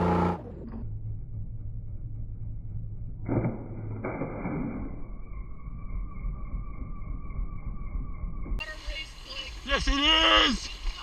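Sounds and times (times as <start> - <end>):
high steady whine: 0.0 - 11.0.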